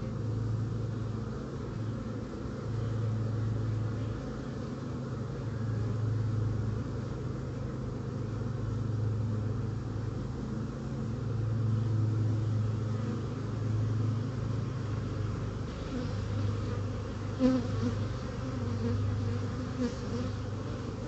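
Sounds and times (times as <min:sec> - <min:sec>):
bees humming: 0:00.0 - 0:21.0.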